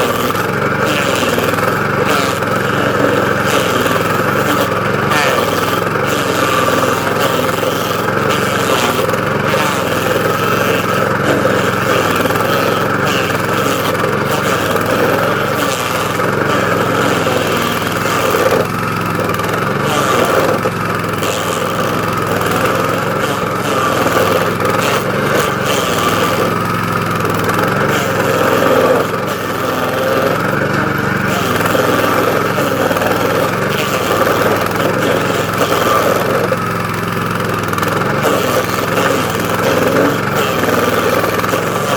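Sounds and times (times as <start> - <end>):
gasoline engine running: 0.0 - 41.9
short crackles: 0.0 - 41.9.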